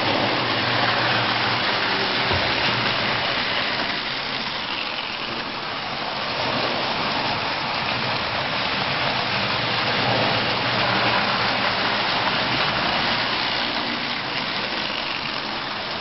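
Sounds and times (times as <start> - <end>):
toy train wheels rumbling on rails: 0.0 - 16.0.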